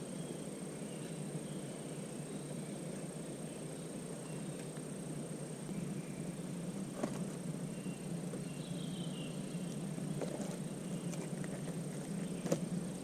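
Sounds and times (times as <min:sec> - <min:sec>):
campfire low rush: 0:00.0 - 0:13.0.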